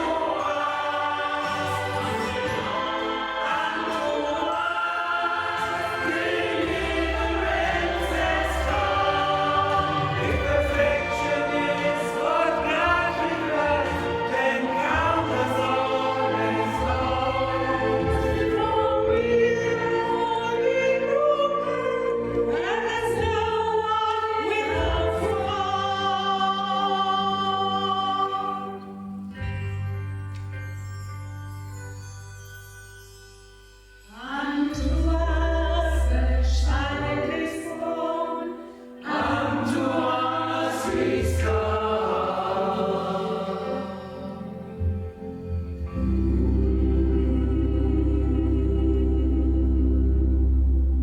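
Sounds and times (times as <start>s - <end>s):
choir singing: 0.0s - 29.4s, 34.1s - 51.0s.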